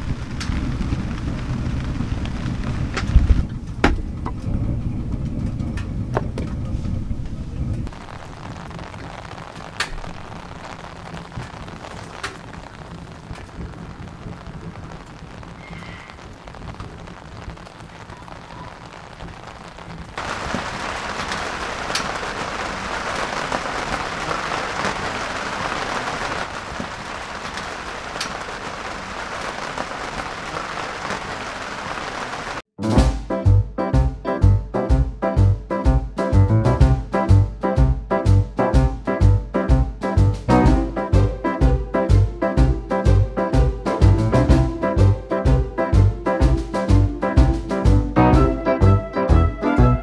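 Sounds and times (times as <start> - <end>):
steady rain falling: 0.0 - 32.7, 36.2 - 50.0.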